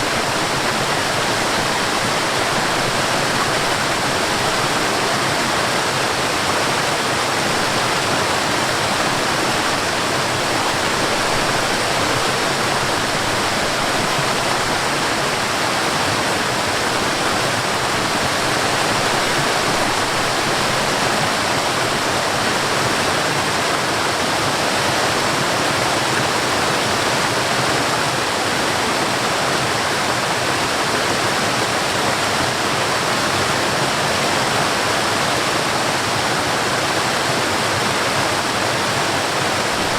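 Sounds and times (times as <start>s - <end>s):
stream rushing over waterfall: 0.0s - 39.9s.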